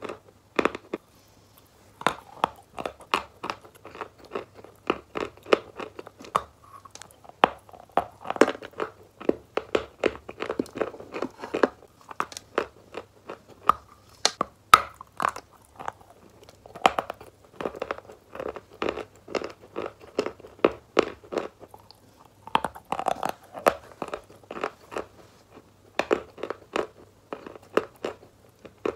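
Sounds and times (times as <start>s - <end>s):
chalk crunching while chewed: 0.0s - 28.9s.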